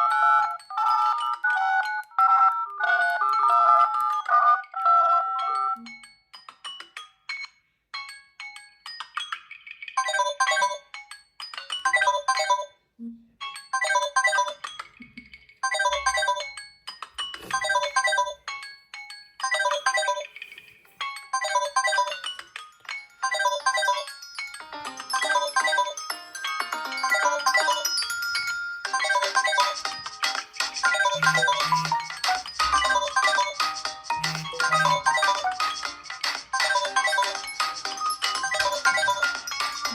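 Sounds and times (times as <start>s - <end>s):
smartphone ringtone chiming melody: 0.0s - 39.9s.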